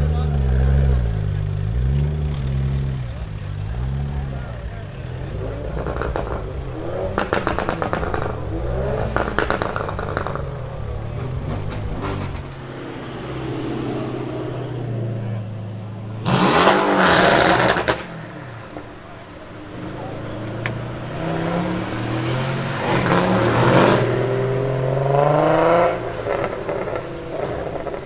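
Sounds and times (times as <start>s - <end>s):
car exhaust revving: 0.0s - 28.0s
exhaust crackles: 0.0s - 28.0s.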